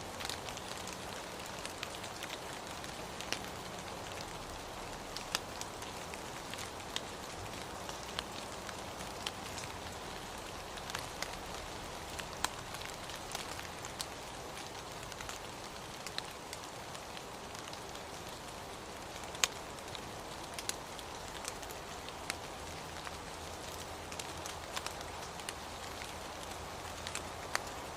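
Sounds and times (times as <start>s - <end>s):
rain hiss: 0.0s - 27.9s
raindrop ticks: 0.1s - 18.4s, 19.0s - 27.9s.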